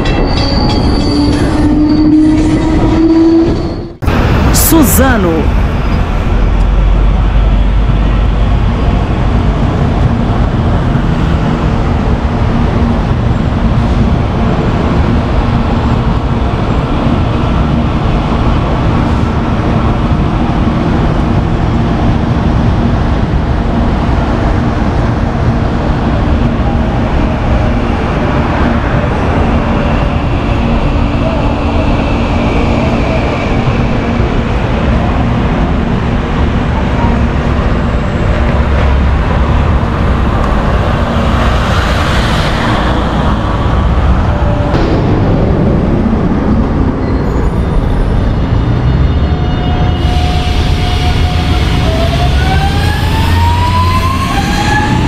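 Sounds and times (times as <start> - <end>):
electric train rumble: 0.0 - 55.0.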